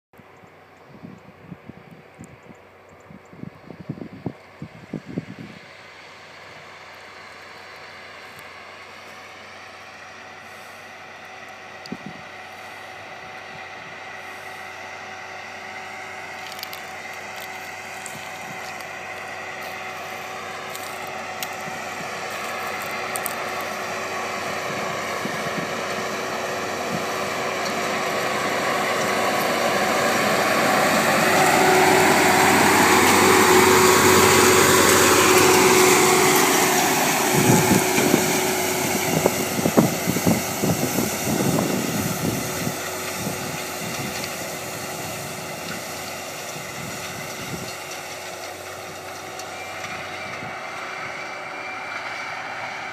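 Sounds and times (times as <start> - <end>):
tractor engine: 0.2 - 52.9
seeder tines clattering over ground: 6.5 - 52.9.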